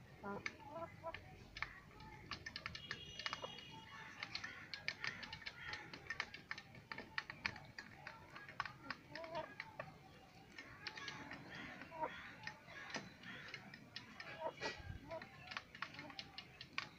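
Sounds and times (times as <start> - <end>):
beaks tapping metal bowl: 0.3 - 16.9.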